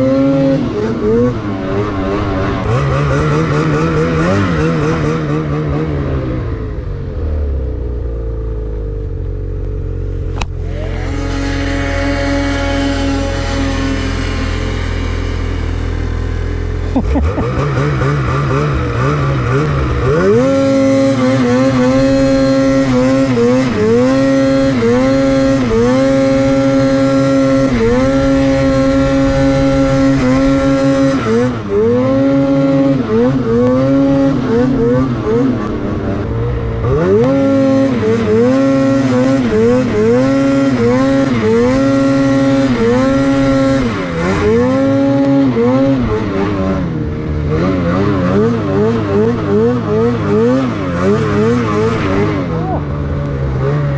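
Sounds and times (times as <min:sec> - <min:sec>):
snowmobile engine revving: 0:00.0 - 0:07.8, 0:09.8 - 0:53.9.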